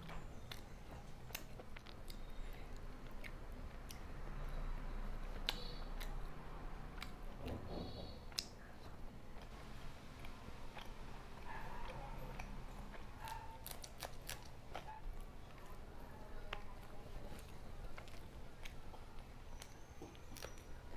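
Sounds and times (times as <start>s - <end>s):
chewing: 0.0s - 20.9s.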